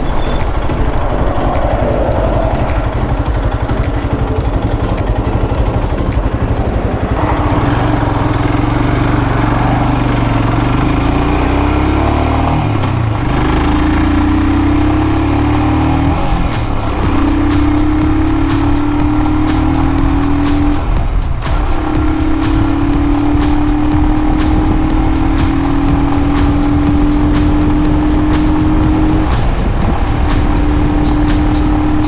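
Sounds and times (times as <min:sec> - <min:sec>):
motorcycle engine accelerating: 0:00.0 - 0:32.0
wind noise: 0:00.0 - 0:32.0.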